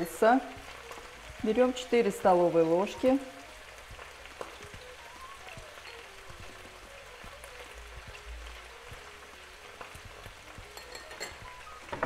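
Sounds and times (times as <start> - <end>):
food sizzling in oil: 0.0 - 12.0
small crackles of frying: 0.0 - 12.0.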